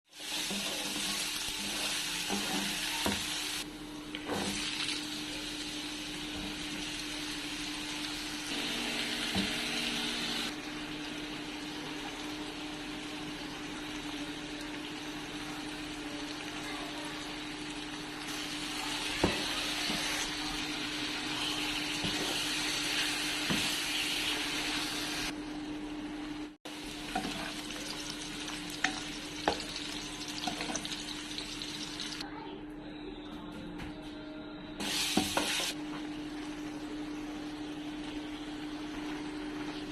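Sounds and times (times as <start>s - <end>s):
food sizzling in a pan: 0.1s - 3.7s, 4.3s - 25.4s, 26.7s - 32.2s, 34.8s - 39.9s.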